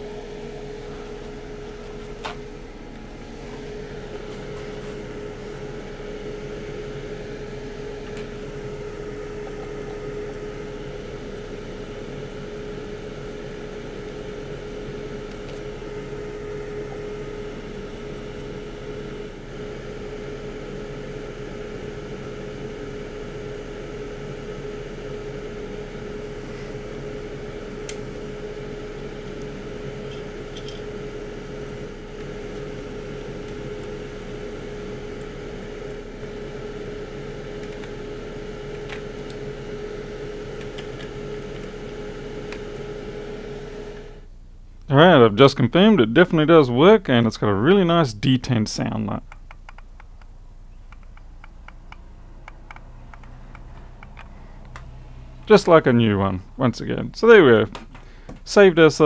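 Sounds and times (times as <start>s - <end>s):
fan-like hum: 0.0s - 59.0s.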